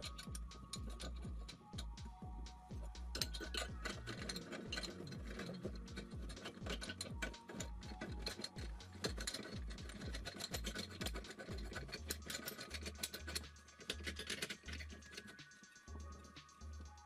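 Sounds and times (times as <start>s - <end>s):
bass beat of background music: 0.0s - 17.0s
metallic clicking and scraping: 0.0s - 17.0s.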